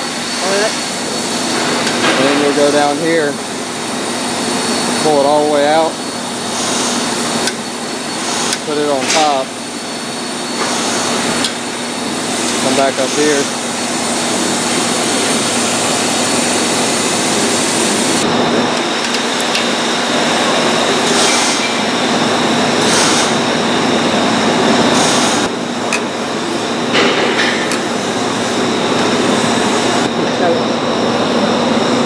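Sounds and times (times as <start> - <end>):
constant hum: 0.0 - 32.0
loud machine noise: 0.0 - 32.0.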